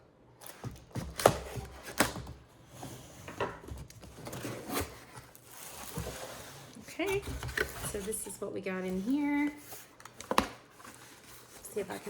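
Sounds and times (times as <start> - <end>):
cardboard rustling and scraping: 0.4 - 12.0.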